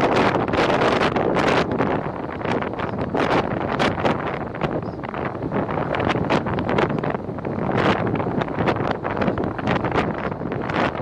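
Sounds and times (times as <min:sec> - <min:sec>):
road and engine noise: 0:00.0 - 0:11.0
wind buffeting microphone: 0:00.0 - 0:11.0.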